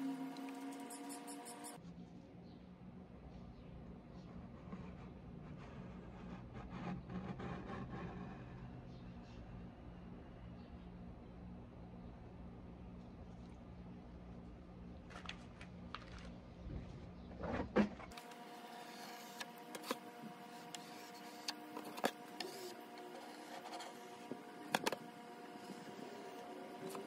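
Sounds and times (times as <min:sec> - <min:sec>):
faint hum: 0:00.0 - 0:27.0.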